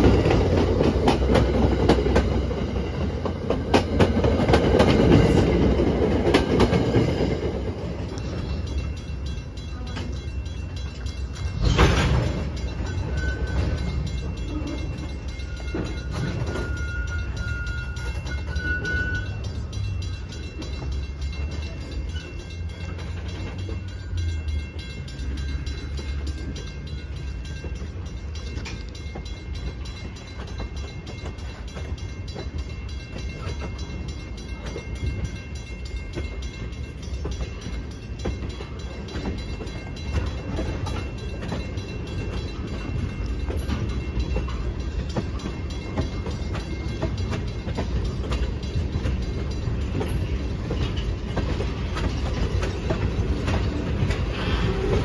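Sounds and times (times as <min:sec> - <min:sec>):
train wheels rumbling on rail: 0:00.0 - 0:55.0
wheels and couplers knocking: 0:09.9 - 0:55.0.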